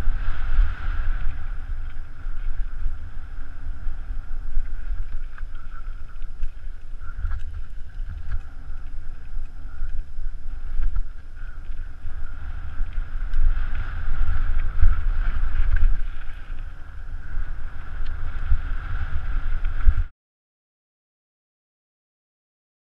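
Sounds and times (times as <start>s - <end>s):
tyre and trail rumble: 0.0s - 20.1s
wind buffeting microphone: 0.0s - 20.1s
bike clicks and rattles: 1.0s - 20.0s.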